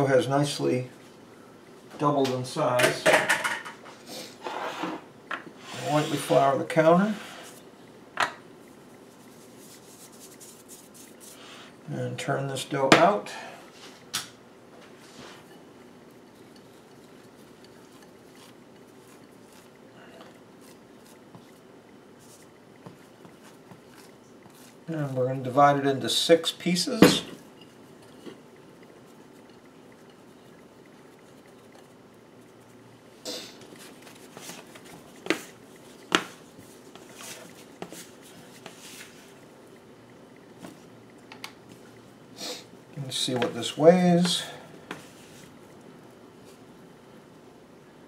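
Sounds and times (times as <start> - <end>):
steady low hiss: 0.0 - 48.0.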